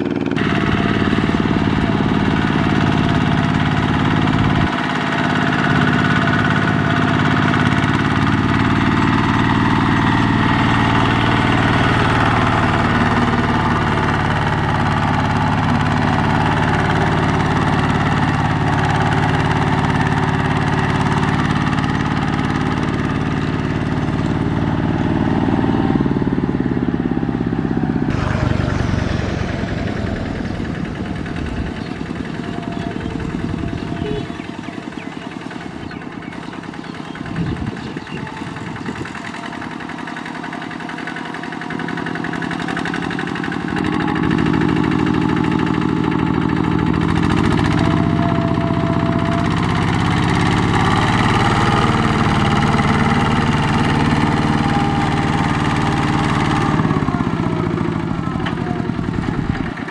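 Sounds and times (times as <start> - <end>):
diesel tractor engines running: 0.0 - 59.9.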